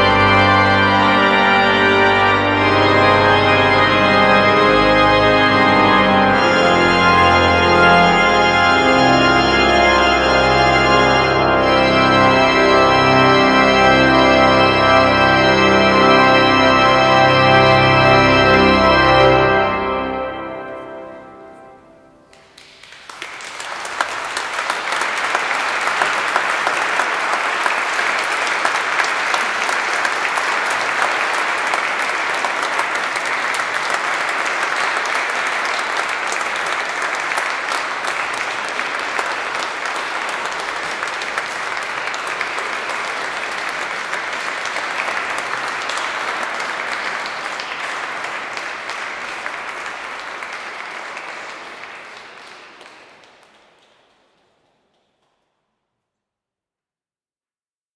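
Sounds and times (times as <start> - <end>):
audience applauding: 0.0 - 21.0, 22.2 - 55.6.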